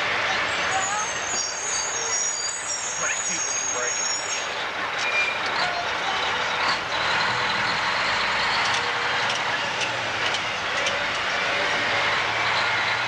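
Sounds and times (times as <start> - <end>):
diesel truck engine: 0.0 - 13.0
road noise: 0.0 - 13.0.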